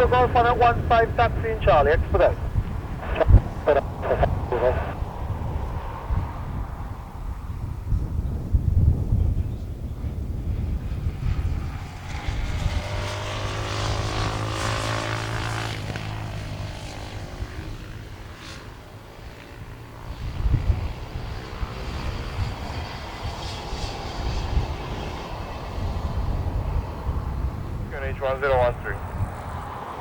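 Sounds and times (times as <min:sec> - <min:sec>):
aircraft engine passing by: 0:00.0 - 0:30.0
wind buffeting microphone: 0:00.0 - 0:30.0.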